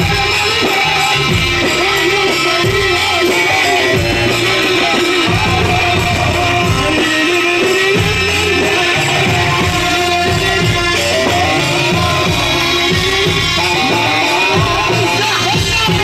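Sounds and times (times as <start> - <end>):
band playing instrumental music: 0.0 - 16.0
heavy low beat: 0.0 - 16.0.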